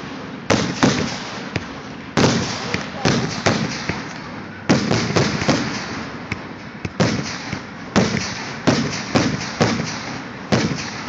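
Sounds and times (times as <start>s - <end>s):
firework bangs echoing: 0.0s - 11.0s
firework pops: 0.5s - 11.0s.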